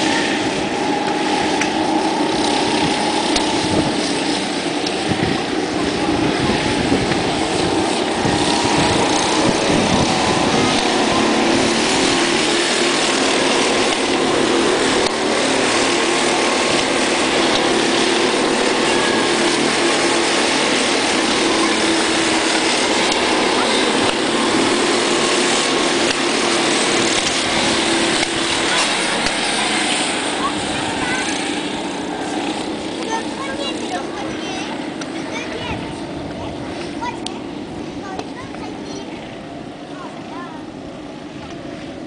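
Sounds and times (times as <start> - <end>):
racing kart engines: 0.0 - 42.0.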